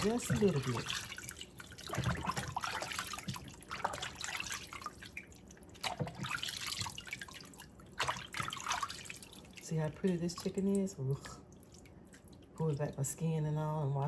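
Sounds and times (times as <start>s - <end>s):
sink water splashing and dripping: 0.0s - 13.1s.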